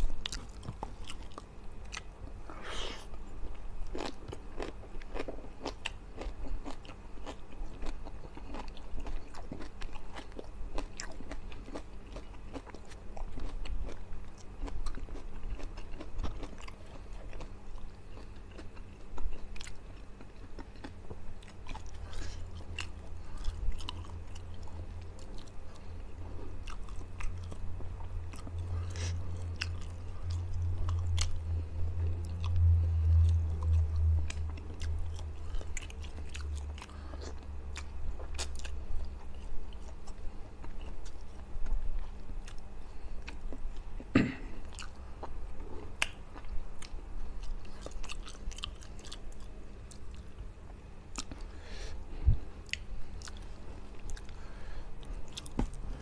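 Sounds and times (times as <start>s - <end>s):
man chewing and crunching food: 0.0s - 56.0s.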